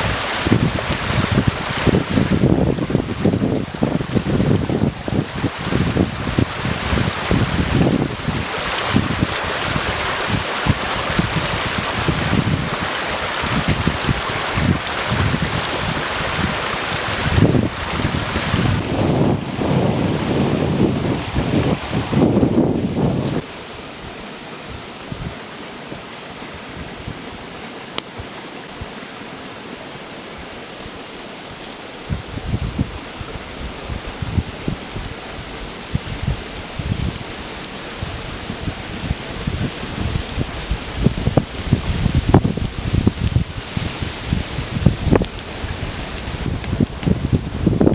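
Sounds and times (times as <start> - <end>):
wind buffeting microphone: 0.0 - 25.4, 32.0 - 47.9
stream water rushing: 0.0 - 47.9.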